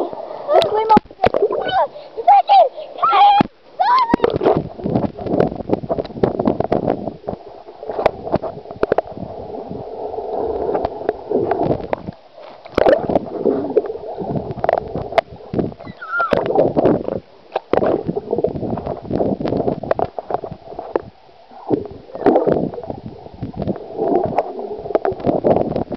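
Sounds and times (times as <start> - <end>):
muffled underwater gurgling: 0.0 - 25.9.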